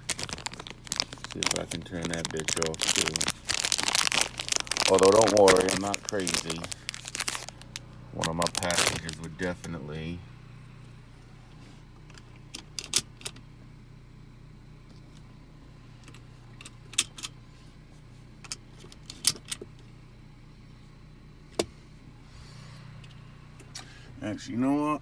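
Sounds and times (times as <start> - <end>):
car idling hum: 0.0 - 25.0.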